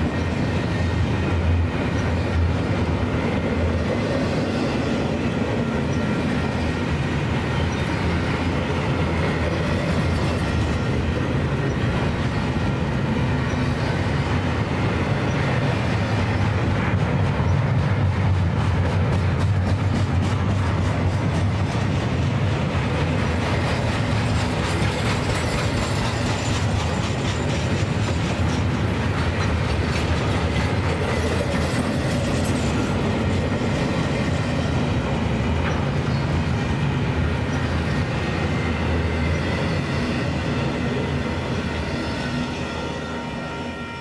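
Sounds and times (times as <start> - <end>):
freight train wheels clattering: 0.0 - 42.7.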